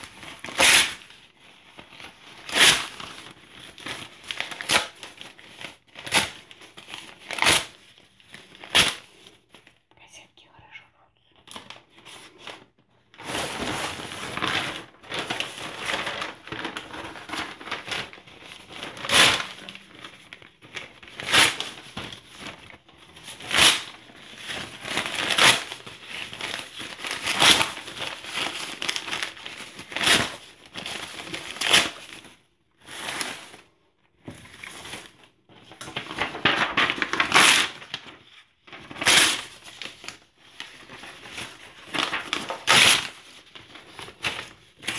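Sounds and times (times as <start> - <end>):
paper crumpling and tearing: 0.0 - 9.8, 11.5 - 33.7, 34.4 - 44.9.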